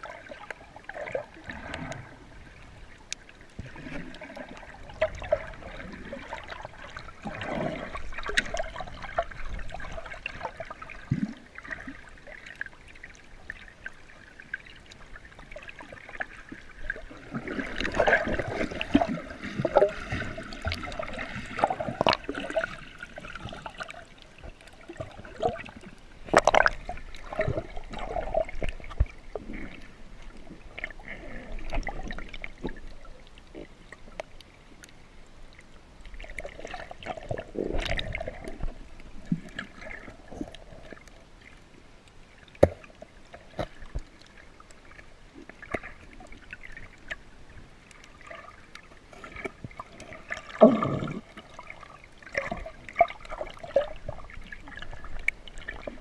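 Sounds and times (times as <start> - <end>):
water gurgling underwater: 0.0 - 34.9, 35.5 - 41.6, 42.4 - 56.0.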